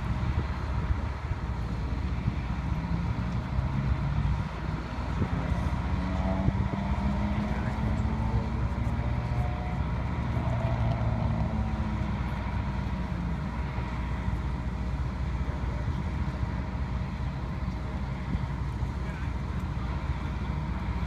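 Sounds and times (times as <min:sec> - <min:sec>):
pitched engine drone: 0:00.0 - 0:21.0
road traffic rumble: 0:00.0 - 0:21.0.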